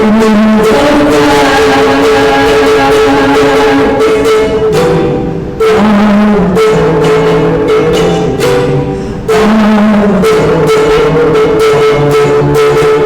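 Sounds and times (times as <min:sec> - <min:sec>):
instrumental music with beat: 0:00.0 - 0:13.0.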